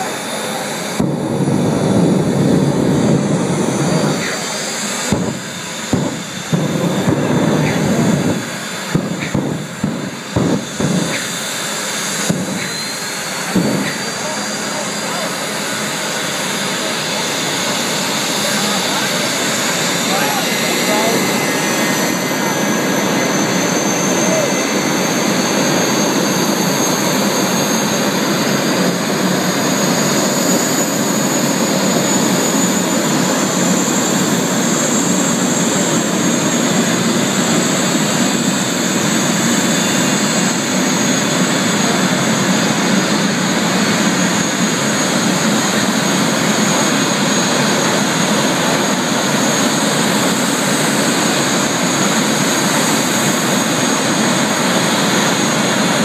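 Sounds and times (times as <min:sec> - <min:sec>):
jet turbine engine roaring: 0:00.0 - 0:56.0.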